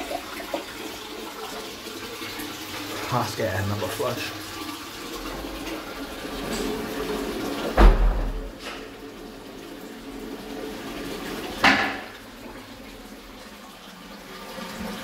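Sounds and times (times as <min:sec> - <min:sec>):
toilet flush water running: 0:00.0 - 0:15.0.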